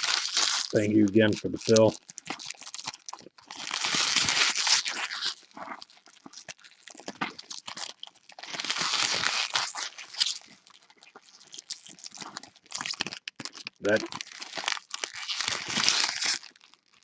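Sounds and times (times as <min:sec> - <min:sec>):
card pack wrapper tearing: 0:00.0 - 0:17.0.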